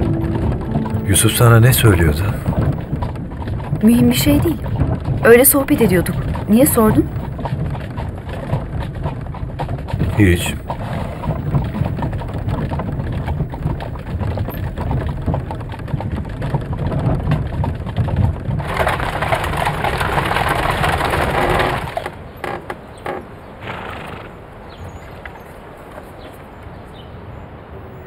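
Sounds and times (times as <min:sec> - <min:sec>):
carriage wheels rattling on cobblestones: 0:00.0 - 0:23.4
hooves clopping: 0:00.0 - 0:26.8.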